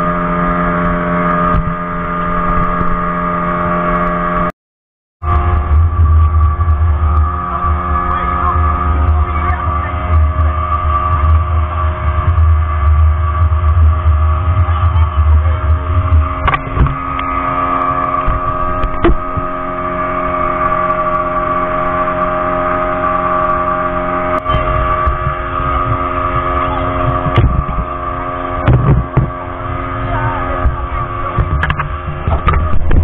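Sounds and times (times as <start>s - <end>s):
speedboat engine running: 0.0s - 4.5s, 5.2s - 33.0s.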